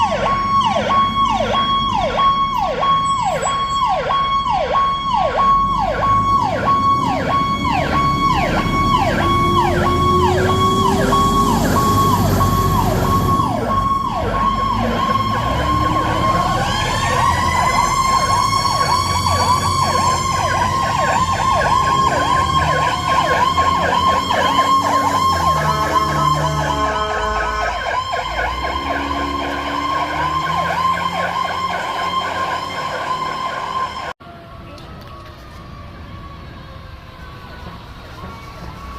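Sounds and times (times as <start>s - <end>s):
engine rumble: 0.0s - 38.9s
siren wail: 0.0s - 38.9s
siren yelp: 0.0s - 38.9s
steady high siren tone: 0.0s - 38.9s.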